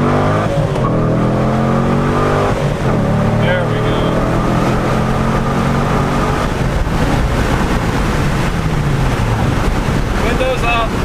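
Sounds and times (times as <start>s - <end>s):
car engine exhaust drone: 0.0s - 11.0s.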